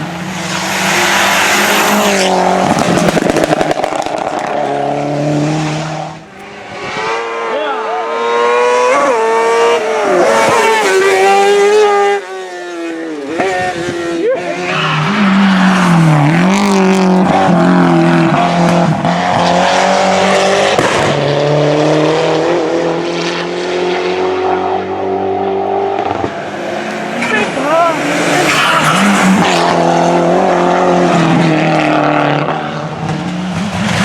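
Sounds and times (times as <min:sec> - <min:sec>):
race car engines revving: 0:00.0 - 0:34.0.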